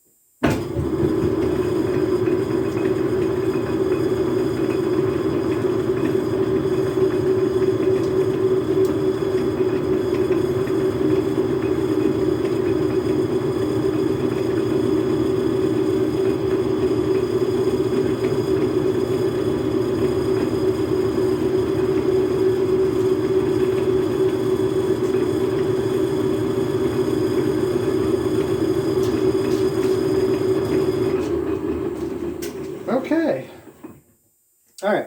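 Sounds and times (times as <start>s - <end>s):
metal lathe humming: 0.7s - 34.0s.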